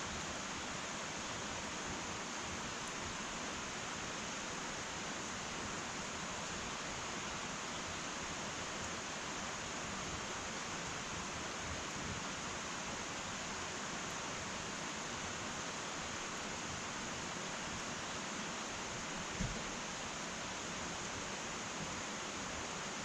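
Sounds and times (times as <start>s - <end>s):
wood fire hissing: 0.0s - 23.0s.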